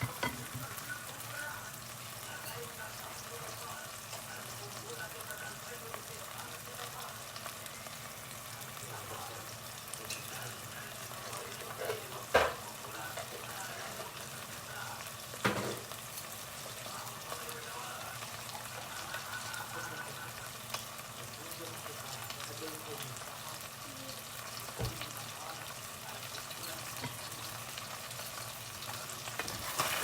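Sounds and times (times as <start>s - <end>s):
food sizzling in a pot: 0.0s - 30.0s.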